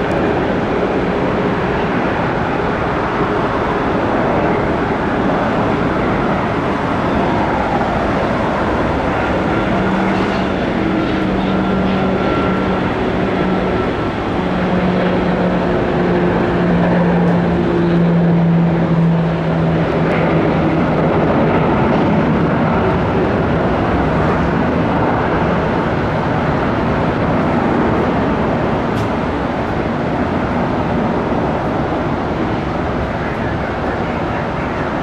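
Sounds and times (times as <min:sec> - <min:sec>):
aircraft engine and air noise: 0:00.0 - 0:35.0
low propeller hum: 0:00.0 - 0:35.0.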